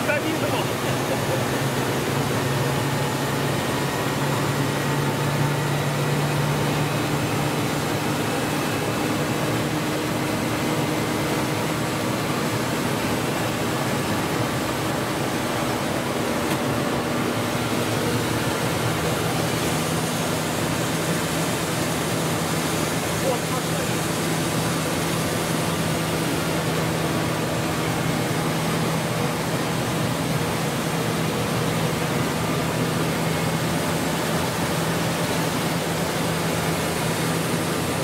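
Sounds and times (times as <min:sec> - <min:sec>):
helicopter engine drone in cabin: 0:00.0 - 0:38.0.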